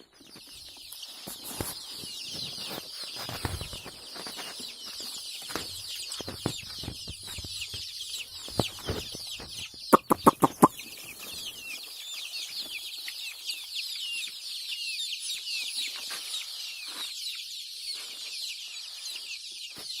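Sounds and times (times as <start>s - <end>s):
chickens peeping: 0.0s - 20.0s.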